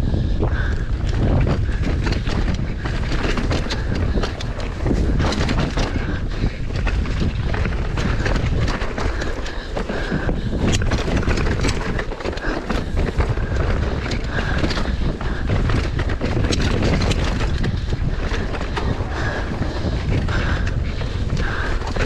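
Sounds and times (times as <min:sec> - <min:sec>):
bike rattling: 0:00.0 - 0:22.0
bike tyre noise: 0:00.0 - 0:22.0
wind buffeting microphone: 0:00.0 - 0:22.0.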